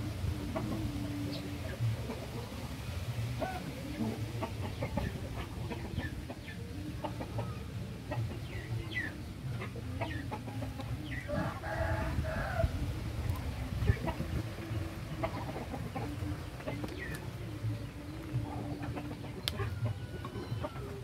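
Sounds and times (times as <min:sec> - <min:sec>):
poultry chirping and clucking: 0:00.0 - 0:21.0.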